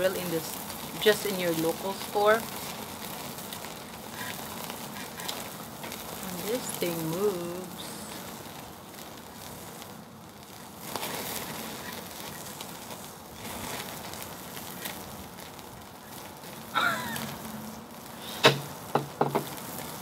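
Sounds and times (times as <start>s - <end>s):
steak sizzling on grill: 0.0s - 20.0s.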